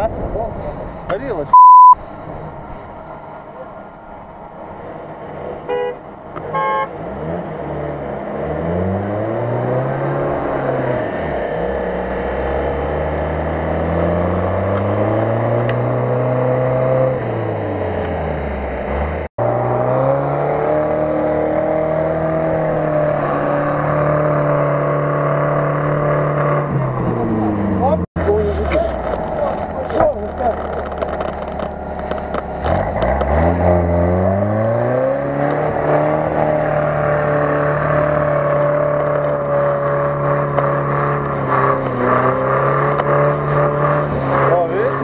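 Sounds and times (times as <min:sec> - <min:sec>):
off-road engine revving hard: 0:05.2 - 0:45.0.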